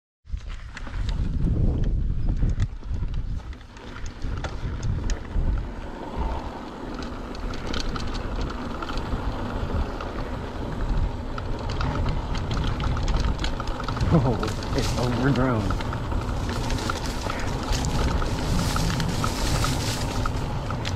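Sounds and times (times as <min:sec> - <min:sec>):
bike clicking and rattling: 0:00.3 - 0:20.9
tyres crunching over dry ground: 0:00.3 - 0:20.9
wind rumble on microphone: 0:00.3 - 0:20.9.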